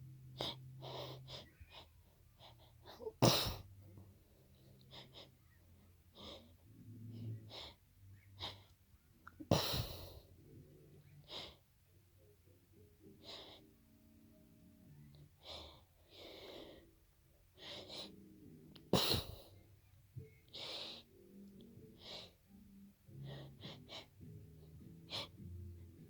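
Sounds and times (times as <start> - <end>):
person breathing: 0.2 - 3.2, 3.8 - 8.7, 9.5 - 11.7, 13.0 - 13.8, 14.9 - 19.6, 20.2 - 26.0.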